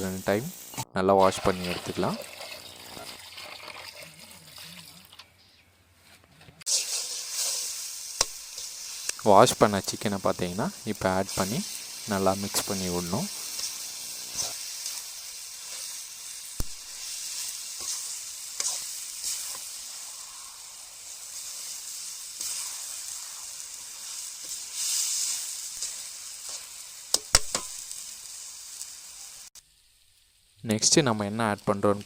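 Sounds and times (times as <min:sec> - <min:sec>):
chicken sizzling in hot oil: 0:00.0 - 0:05.2, 0:06.7 - 0:32.0.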